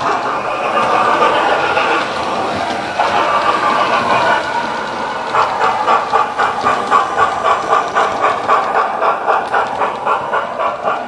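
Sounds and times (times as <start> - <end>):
steam hiss: 0.0 - 11.0
steam locomotive chuffs through speaker: 0.0 - 11.0.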